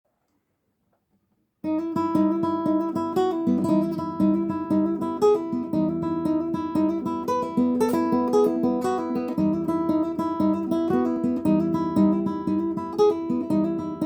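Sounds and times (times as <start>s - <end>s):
fingerpicked guitar: 1.6s - 14.0s.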